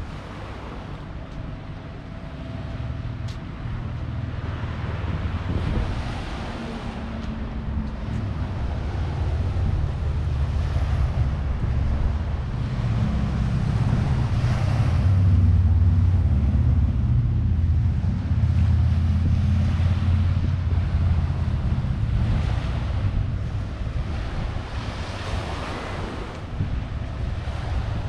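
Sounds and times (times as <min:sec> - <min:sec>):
wind buffeting the microphone: 0:00.0 - 0:28.0.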